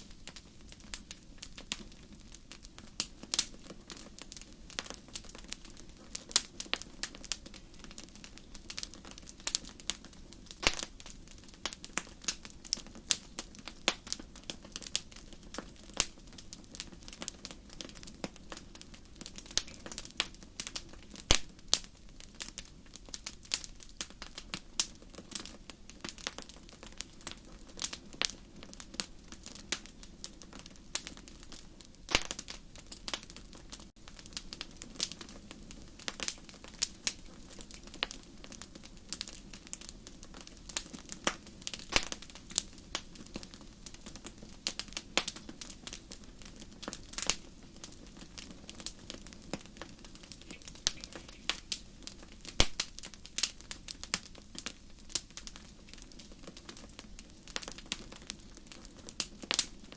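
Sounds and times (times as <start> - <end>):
fire crackling and popping: 0.0 - 59.9
wood fire hissing: 0.0 - 59.9.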